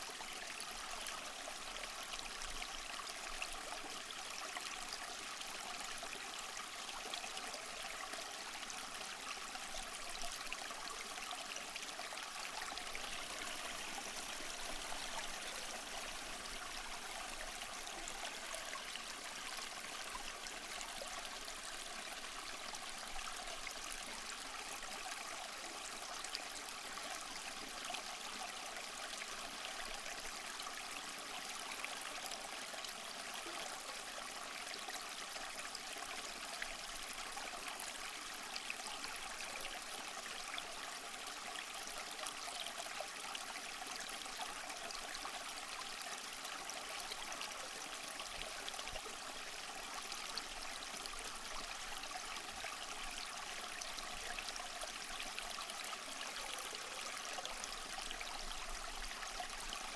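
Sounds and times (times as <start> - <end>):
small waterfall splashing over rocks: 0.0 - 59.9.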